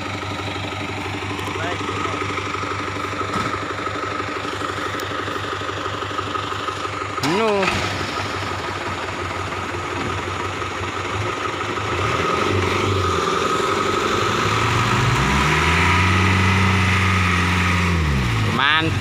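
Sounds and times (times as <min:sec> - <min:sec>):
vehicle engine revving: 0:00.0 - 0:05.5, 0:07.2 - 0:10.3, 0:11.5 - 0:19.0.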